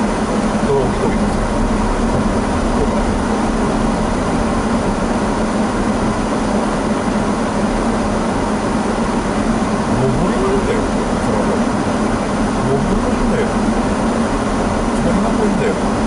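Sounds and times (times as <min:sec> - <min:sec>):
car cabin engine and tyre hum: 0:00.0 - 0:16.0.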